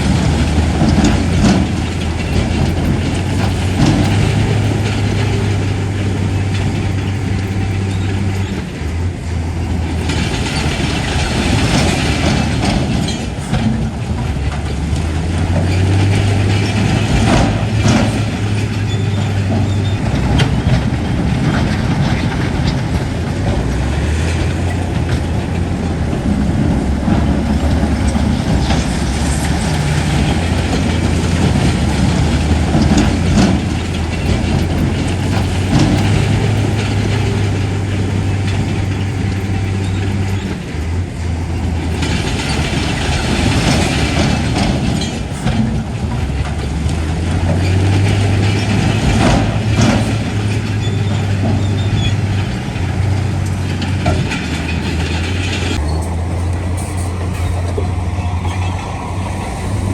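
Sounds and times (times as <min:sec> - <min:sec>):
clanking and knocking of machinery: 0:00.0 - 0:59.9
diesel engine drone: 0:00.0 - 0:59.9.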